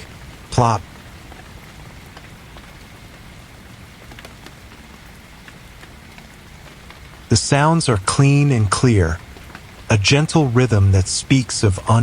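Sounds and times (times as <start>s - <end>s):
steady rain hissing: 0.0s - 12.0s.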